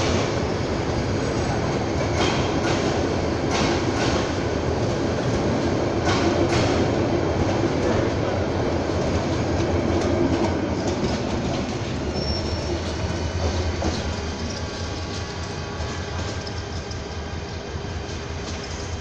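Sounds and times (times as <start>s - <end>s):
train coaches rolling on track: 0.0s - 19.0s.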